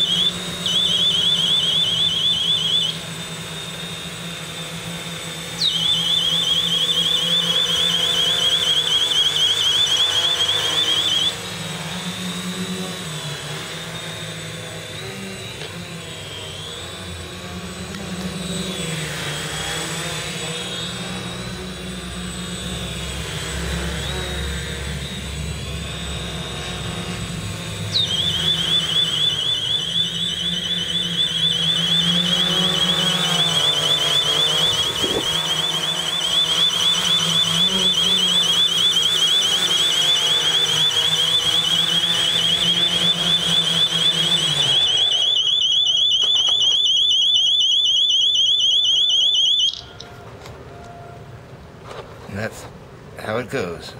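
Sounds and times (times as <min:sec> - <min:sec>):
high-pitched alarm siren warble: 0:00.0 - 0:51.4
quadcopter motors humming: 0:00.0 - 0:53.9.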